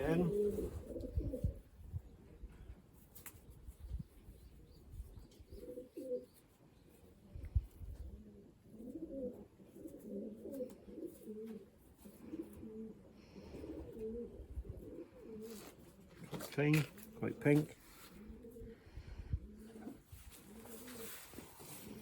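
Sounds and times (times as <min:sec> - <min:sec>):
pigeons cooing: 0:00.0 - 0:02.8, 0:04.3 - 0:22.0.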